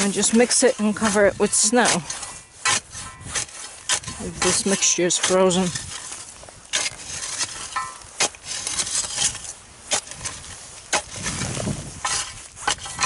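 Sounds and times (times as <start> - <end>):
digging tool chopping into soil: 0.0 - 13.0
scraping in soil: 0.0 - 13.0.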